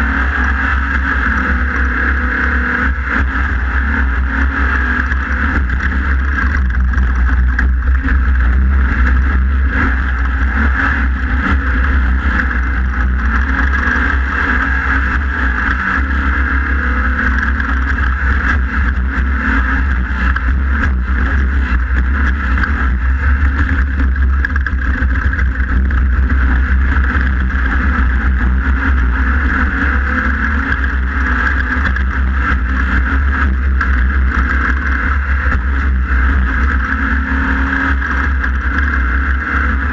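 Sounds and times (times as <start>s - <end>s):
heavy low rumble: 0.0s - 39.9s
race car engine running hard: 0.0s - 39.9s.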